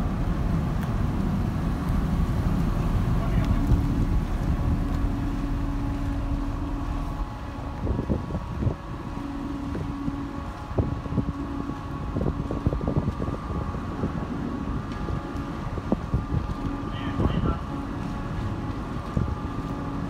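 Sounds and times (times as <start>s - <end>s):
ship machinery hum: 0.0s - 20.0s
wind rumble on microphone: 0.0s - 20.0s.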